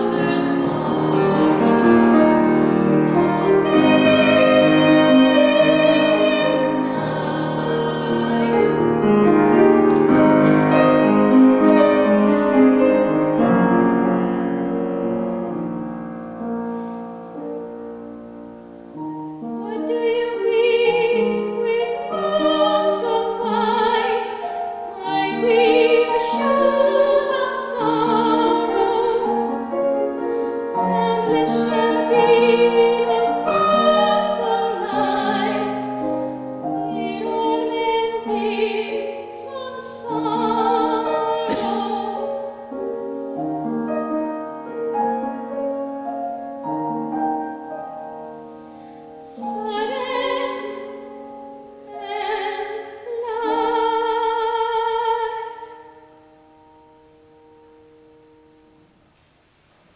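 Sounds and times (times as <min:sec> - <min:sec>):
woman singing classical song: 0:00.0 - 0:13.6, 0:18.9 - 0:45.5, 0:48.4 - 0:56.3
piano accompaniment: 0:00.0 - 0:59.1.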